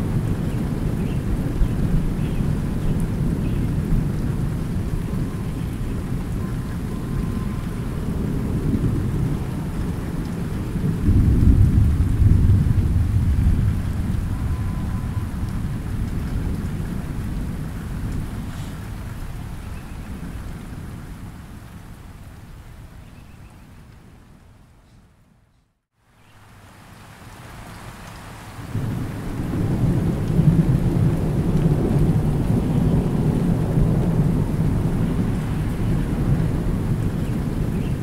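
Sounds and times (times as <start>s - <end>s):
thunder rumbling: 0.0s - 21.4s, 28.7s - 38.0s
light rain: 0.0s - 38.0s.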